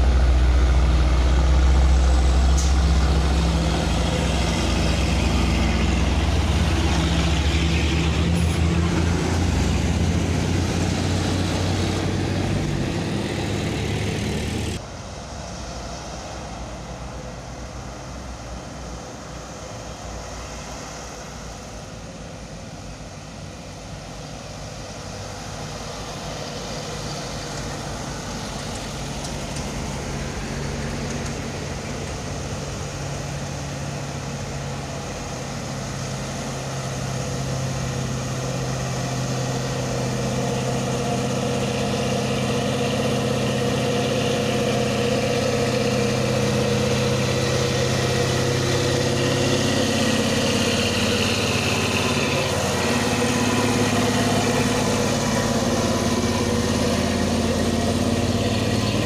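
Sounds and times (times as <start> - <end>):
diesel truck engine labouring: 0.0 - 59.0.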